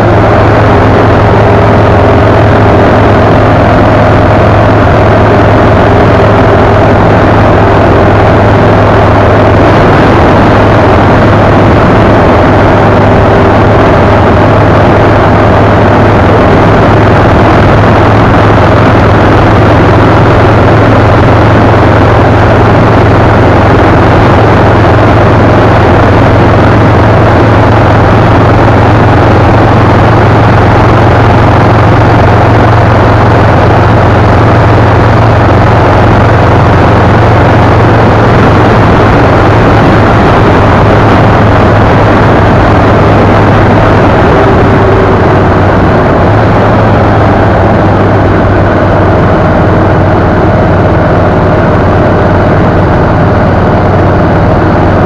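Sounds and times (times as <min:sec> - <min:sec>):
car engine drone: 0:00.0 - 0:55.0
wind and road rush: 0:00.0 - 0:55.0.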